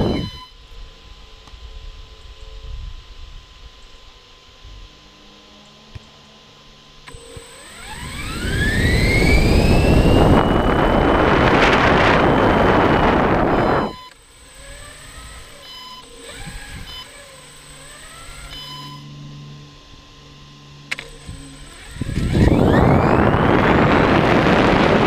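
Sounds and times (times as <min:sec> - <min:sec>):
electric motor and propeller whining: 0:00.0 - 0:25.0
low hum: 0:00.0 - 0:25.0.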